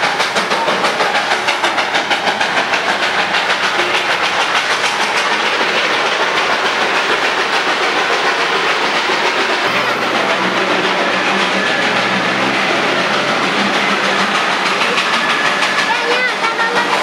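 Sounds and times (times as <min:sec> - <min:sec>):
steam locomotive exhaust chuffing: 0:00.0 - 0:17.0.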